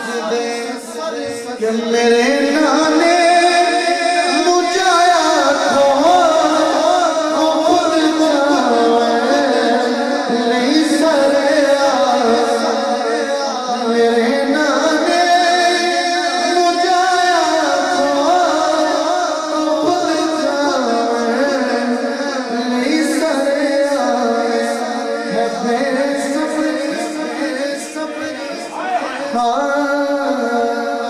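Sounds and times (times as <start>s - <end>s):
man singing through sound system: 0.0s - 31.0s.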